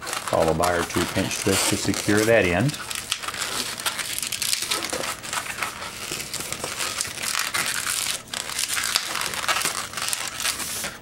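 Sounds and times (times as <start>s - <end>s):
balloon latex rubbing: 0.0s - 11.0s.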